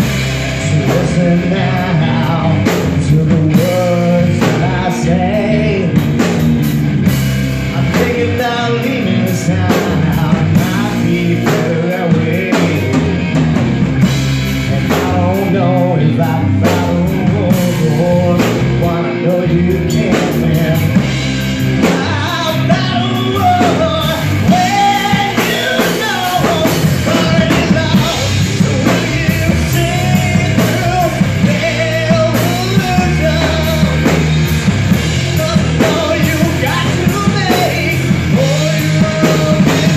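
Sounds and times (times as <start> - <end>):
bass guitar: 0.0 - 39.9
distorted electric guitars: 0.0 - 39.9
drum kit: 0.0 - 39.9
lead singer singing: 0.0 - 39.9.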